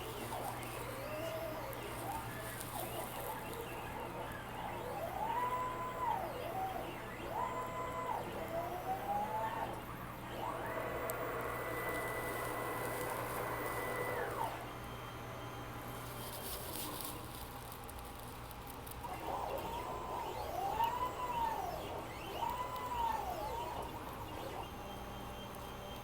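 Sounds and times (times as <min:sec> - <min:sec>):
stepper motors whining: 0:00.0 - 0:15.6, 0:19.1 - 0:26.0.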